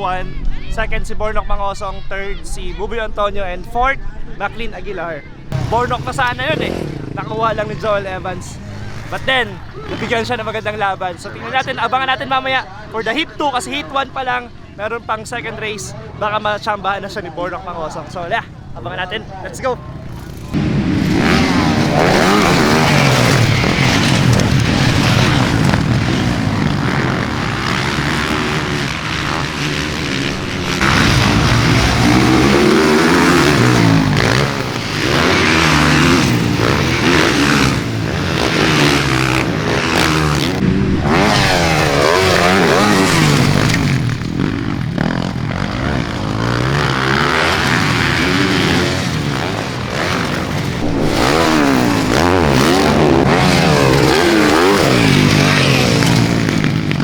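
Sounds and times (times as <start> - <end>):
dirt bike engines revving: 5.4 - 57.0.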